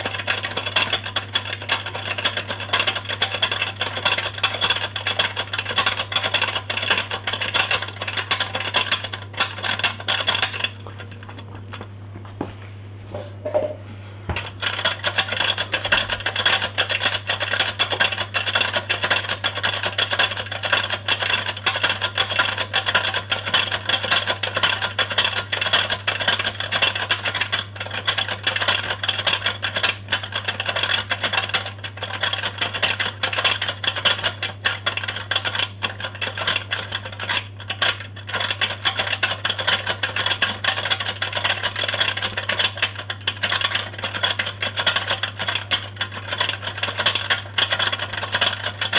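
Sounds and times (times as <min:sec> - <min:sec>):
toy washing machine clattering: 0:00.0 - 0:11.1, 0:14.3 - 0:48.9
steady low hum: 0:00.0 - 0:48.9.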